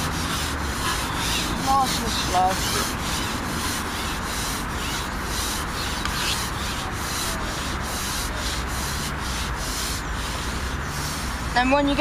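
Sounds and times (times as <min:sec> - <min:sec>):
fishing pole rubbing through hands: 0:00.0 - 0:11.5.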